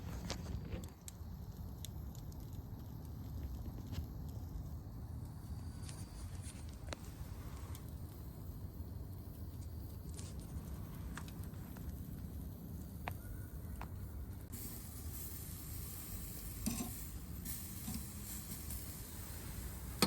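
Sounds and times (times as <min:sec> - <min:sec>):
campfire rumbling and crackling: 0:00.0 - 0:20.0
steady high hiss: 0:00.0 - 0:20.0.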